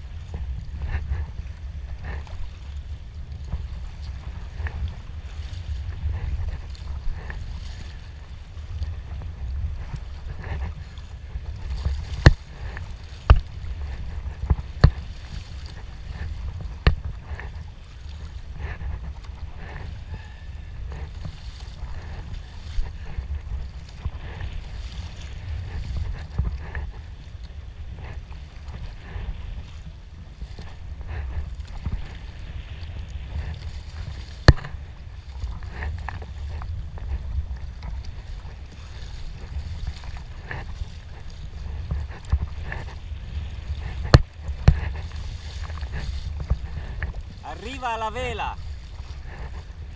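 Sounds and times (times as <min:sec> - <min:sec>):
paddle splashing in water: 0:00.0 - 0:49.9
wind rumble on microphone: 0:00.0 - 0:49.9.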